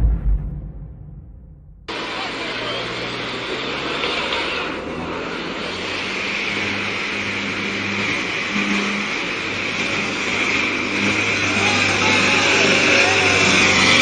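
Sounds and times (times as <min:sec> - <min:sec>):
diesel truck engine running: 0:01.9 - 0:14.0.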